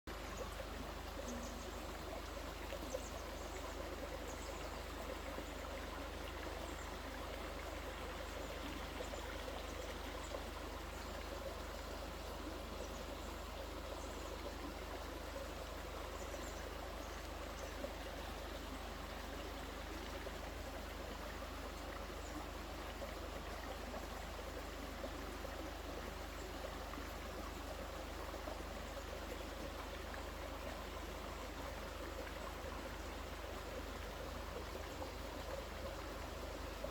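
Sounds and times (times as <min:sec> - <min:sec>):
stream flowing: 0:00.1 - 0:36.9.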